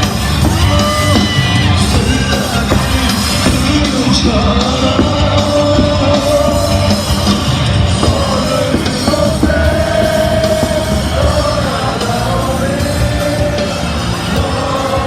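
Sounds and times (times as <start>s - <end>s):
loud amplified music: 0.0s - 15.0s
stadium crowd singing: 0.0s - 15.0s.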